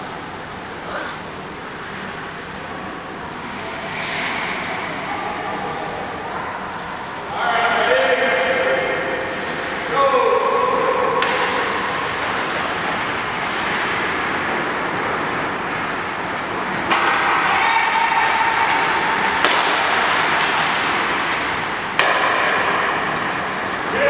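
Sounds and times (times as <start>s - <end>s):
echoing ice rink noise: 0.0s - 24.0s.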